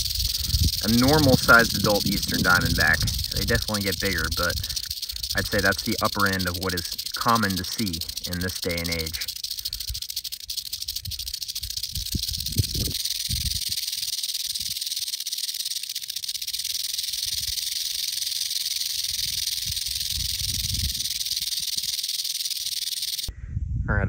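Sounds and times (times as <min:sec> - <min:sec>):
rattlesnake rattling: 0:00.0 - 0:23.3.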